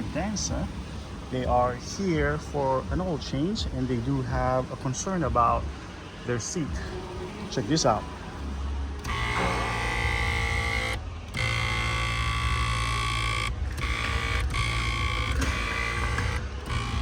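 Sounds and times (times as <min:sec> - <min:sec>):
seat motor grinding whine: 0:00.0 - 0:17.0.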